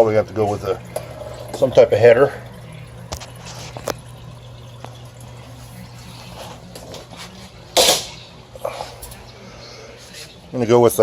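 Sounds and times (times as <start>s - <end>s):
low hum: 0.6s - 10.5s.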